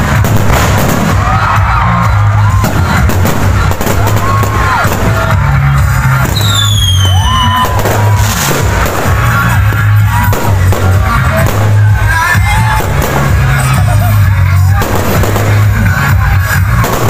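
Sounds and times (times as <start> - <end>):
fireworks bursting: 0.0 - 17.0
loud music with heavy bass: 0.0 - 17.0.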